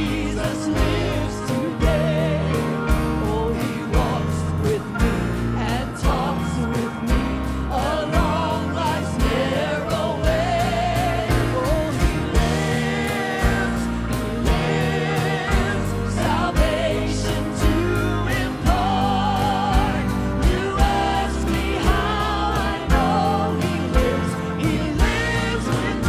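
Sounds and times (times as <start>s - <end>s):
band with steady drum beat: 0.0s - 26.0s
other singers joining: 0.0s - 26.0s.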